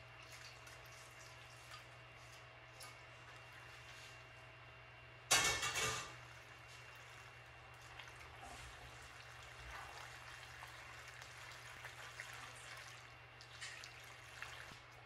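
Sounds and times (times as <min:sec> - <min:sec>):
wet stirring in a pot: 0:00.1 - 0:04.4, 0:06.1 - 0:15.0.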